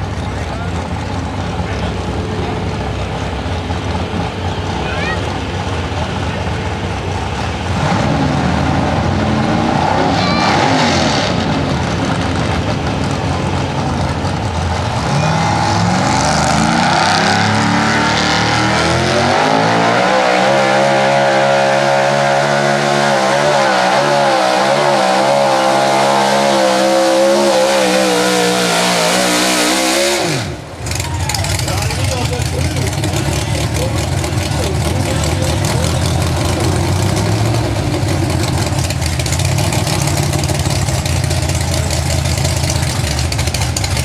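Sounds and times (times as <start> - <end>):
truck engine at full throttle: 0.0 - 44.0.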